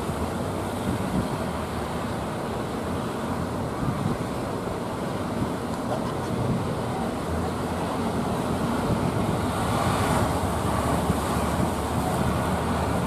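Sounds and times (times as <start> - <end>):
wind buffeting microphone: 0.0 - 1.8, 3.6 - 4.6, 5.3 - 13.0
waves breaking: 0.0 - 13.0.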